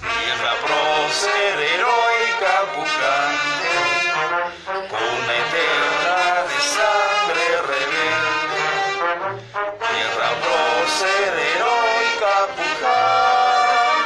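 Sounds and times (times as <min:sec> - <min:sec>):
brass music: 0:00.0 - 0:14.0.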